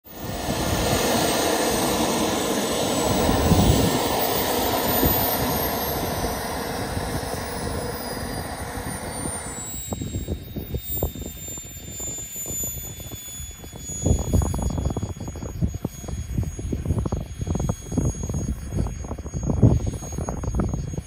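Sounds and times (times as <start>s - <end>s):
model jet turbine whining: 0.0s - 21.0s.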